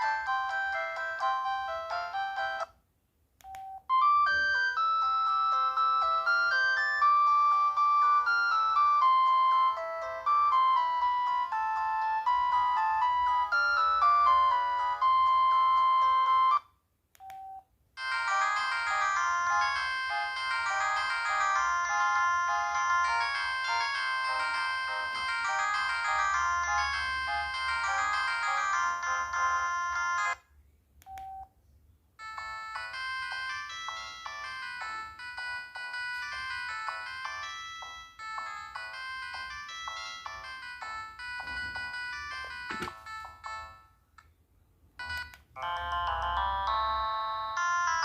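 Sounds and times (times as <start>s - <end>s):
phone ringtone melodies: 0.0s - 2.7s, 3.6s - 16.7s, 17.3s - 30.4s, 32.2s - 44.1s, 45.0s - 48.0s.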